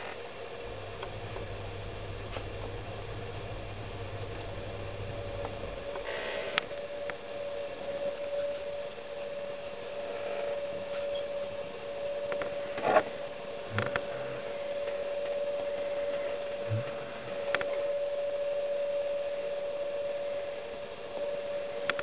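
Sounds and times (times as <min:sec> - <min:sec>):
water heater coil humming: 0:00.0 - 0:22.0.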